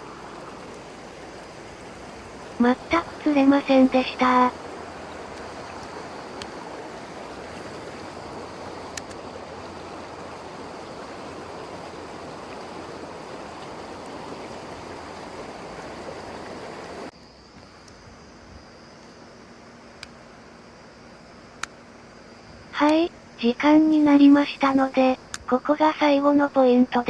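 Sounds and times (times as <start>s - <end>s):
stream water running: 0.0s - 27.0s.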